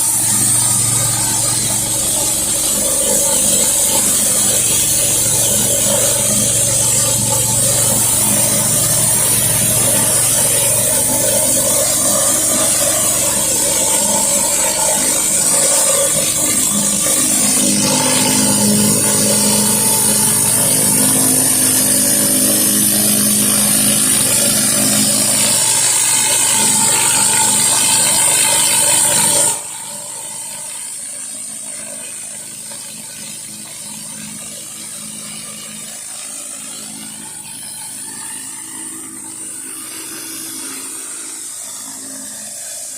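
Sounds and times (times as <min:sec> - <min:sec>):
pressure washer engine running: 0:00.0 - 0:42.9
water spraying onto concrete: 0:00.0 - 0:42.9.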